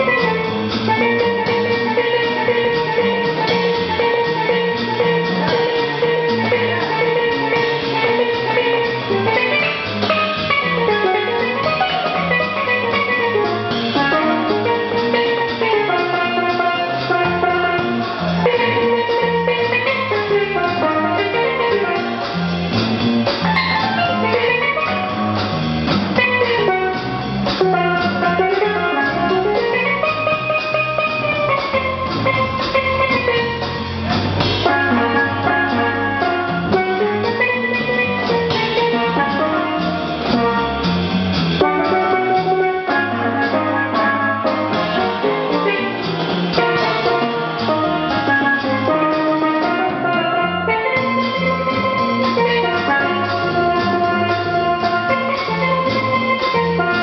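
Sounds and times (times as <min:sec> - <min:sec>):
double bass walking line: 0:00.0 - 0:57.0
drum kit steady beat: 0:00.0 - 0:57.0
steelpan solo: 0:00.0 - 0:57.0.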